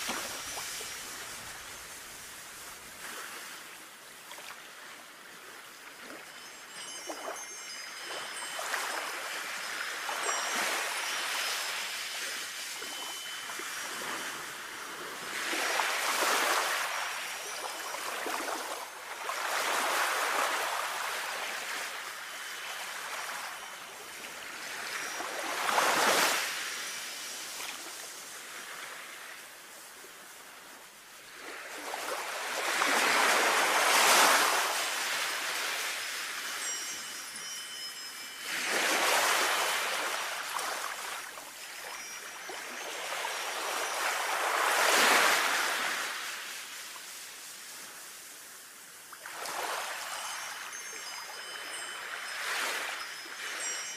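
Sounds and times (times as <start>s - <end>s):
sea waves washing in: 0.0s - 53.9s.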